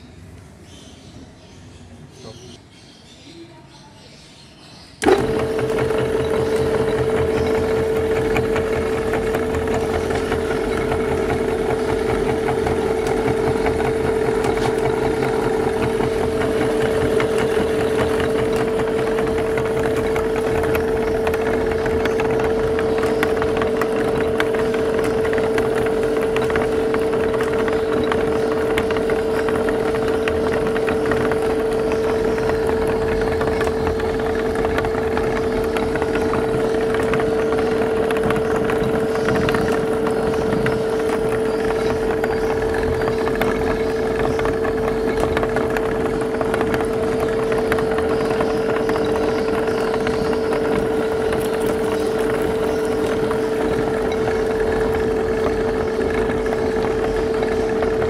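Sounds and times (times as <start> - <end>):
meat grinder motor running: 5.0 - 58.0.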